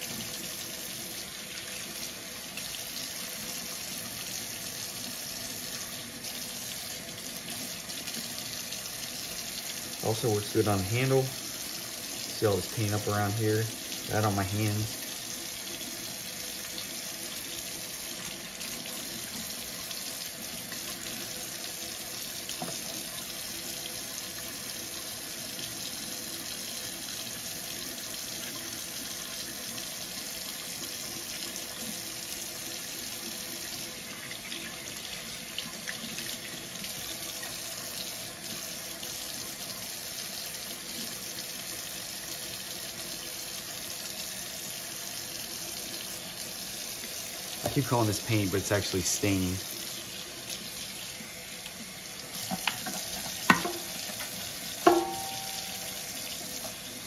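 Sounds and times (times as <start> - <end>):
water running into a metal sink: 0.0 - 57.0.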